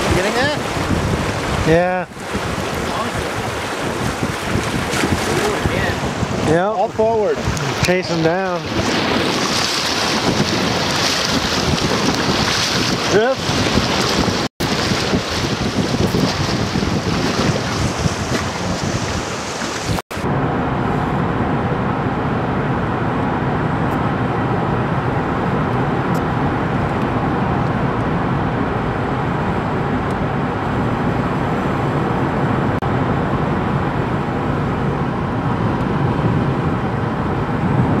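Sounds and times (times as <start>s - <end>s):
wind and water: 0.0s - 38.0s.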